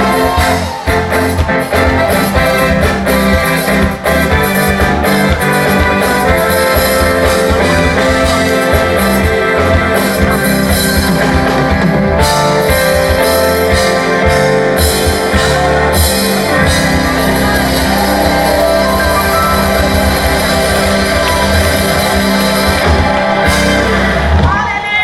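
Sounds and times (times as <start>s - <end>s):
live band playing instrumental music: 0.0s - 25.0s.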